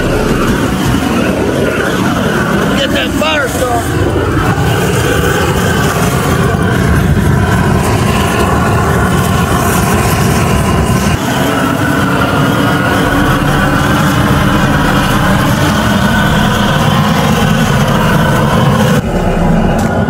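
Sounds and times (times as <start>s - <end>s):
propane torch roaring: 0.0s - 20.0s.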